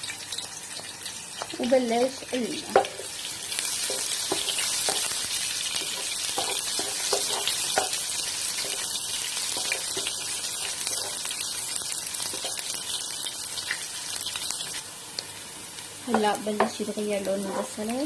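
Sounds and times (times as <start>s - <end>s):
onion and garlic sizzling in oil: 0.0s - 18.0s.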